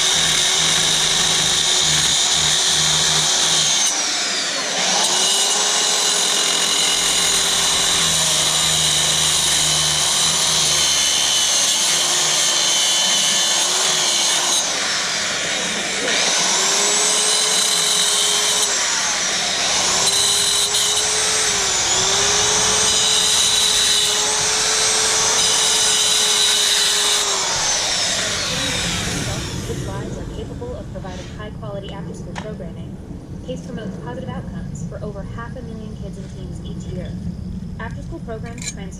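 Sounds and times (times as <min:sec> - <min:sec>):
power tool motor whining: 0:00.0 - 0:31.4.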